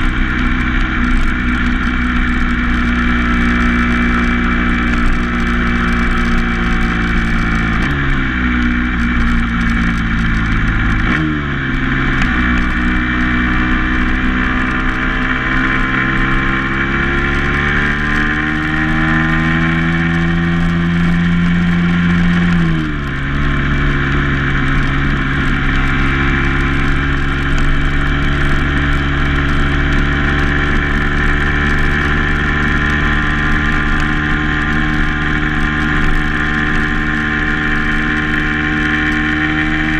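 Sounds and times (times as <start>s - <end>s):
road noise: 0.0s - 39.9s
vehicle engine: 0.0s - 39.9s.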